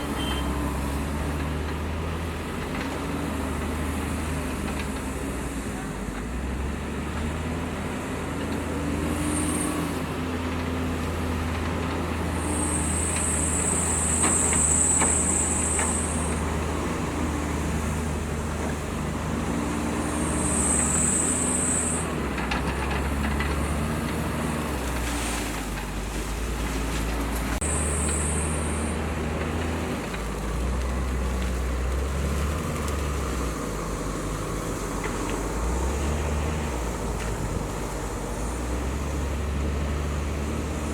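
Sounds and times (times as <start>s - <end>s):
diesel earthmoving machinery engine: 0.0s - 40.9s.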